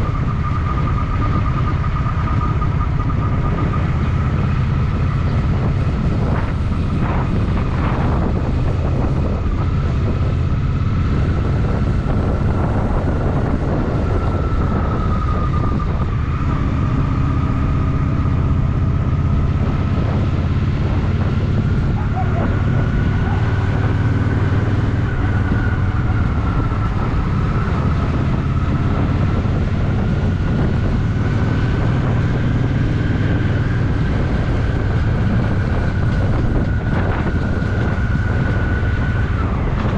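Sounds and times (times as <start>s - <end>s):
motorcycle engine rumbling: 0.0s - 39.9s
thin wavering whine: 0.0s - 39.9s.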